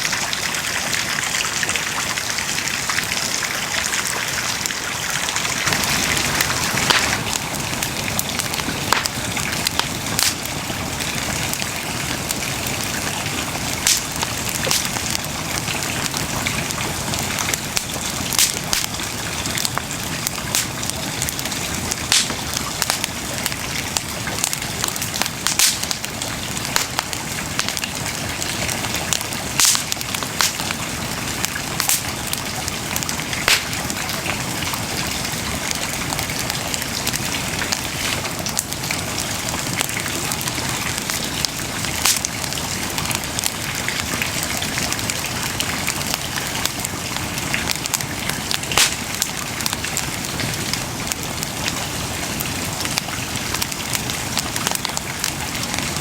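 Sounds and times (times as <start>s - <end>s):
bonfire crackling: 0.1s - 56.0s.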